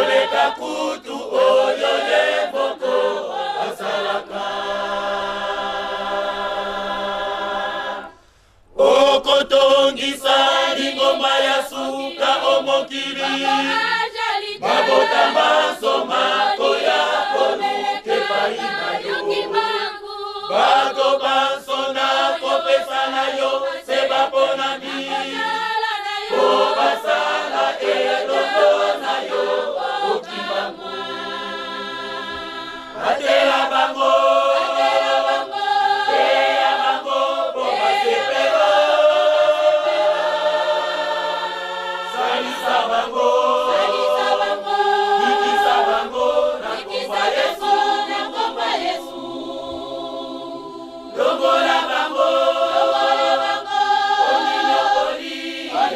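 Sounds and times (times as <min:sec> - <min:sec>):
choir singing a hymn: 0:00.0 - 0:55.9.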